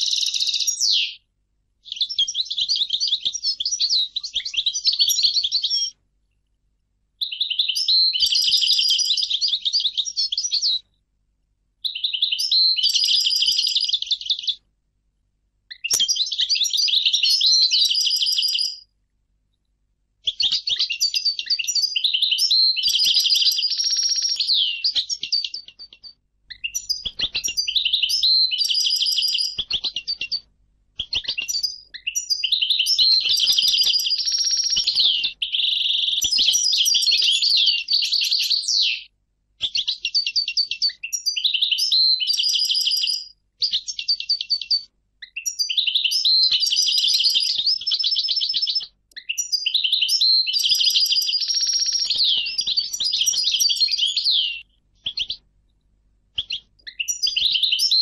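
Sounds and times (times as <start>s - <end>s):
goldfinch twittering song: 0.0s - 1.2s, 1.8s - 5.9s, 7.2s - 10.8s, 11.8s - 14.6s, 15.7s - 18.8s, 20.2s - 30.4s, 31.0s - 55.4s, 56.4s - 58.0s.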